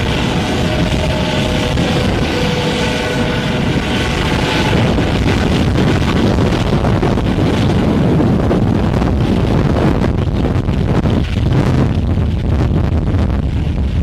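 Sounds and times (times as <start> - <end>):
helicopter rotor and turbines: 0.0 - 14.0
wind buffeting microphone: 0.0 - 14.0.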